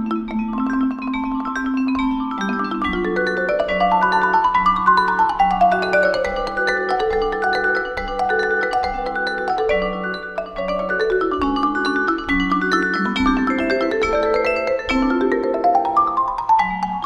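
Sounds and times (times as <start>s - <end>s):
marimba playing: 0.0s - 17.0s
vibraphone playing: 0.0s - 17.0s.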